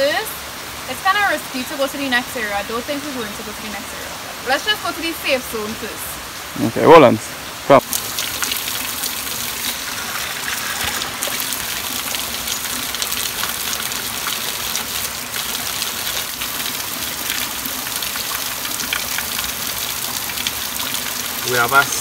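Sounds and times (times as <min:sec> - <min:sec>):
shallow stream running: 0:00.0 - 0:22.0.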